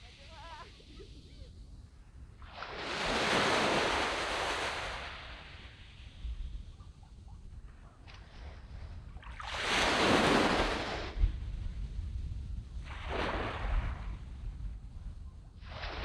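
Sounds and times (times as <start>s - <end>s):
small waves breaking on sand: 0.0s - 11.8s, 12.8s - 14.8s, 15.6s - 16.0s
wind rumble on microphone: 0.0s - 16.0s.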